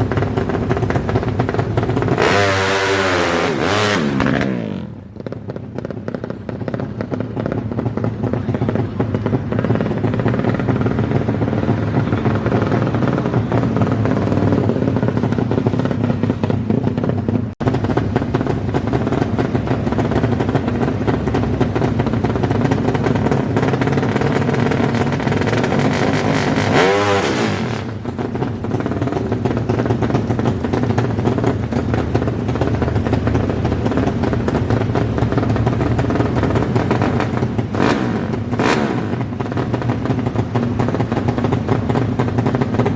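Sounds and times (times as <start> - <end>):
motorcycle engines revving hard: 0.0 - 42.9.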